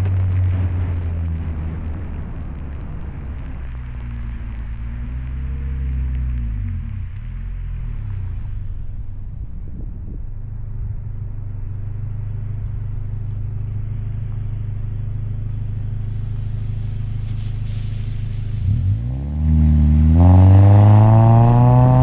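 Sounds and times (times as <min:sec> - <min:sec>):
car engine and exhaust droning: 0:00.0 - 0:22.0
road noise: 0:00.0 - 0:22.0.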